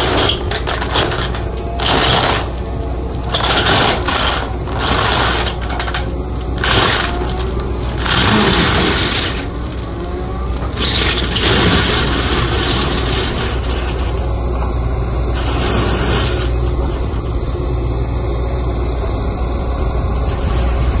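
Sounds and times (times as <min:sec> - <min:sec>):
diesel engine and hydraulics drone: 0:00.0 - 0:21.0
mulcher shredding brush: 0:00.0 - 0:21.0.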